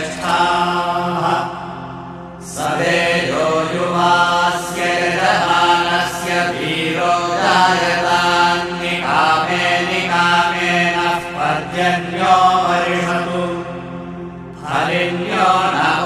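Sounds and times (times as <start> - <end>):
person chanting: 0.0 - 16.0
steady held drone: 0.0 - 16.0.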